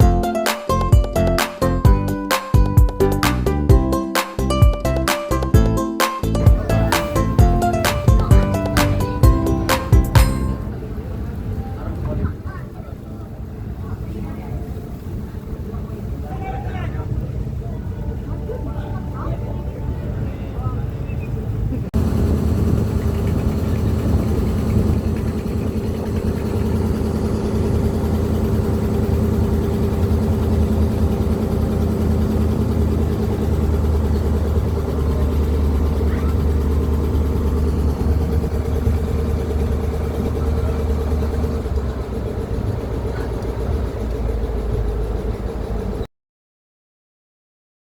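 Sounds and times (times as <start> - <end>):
vehicle engine running: 0.0 - 46.1.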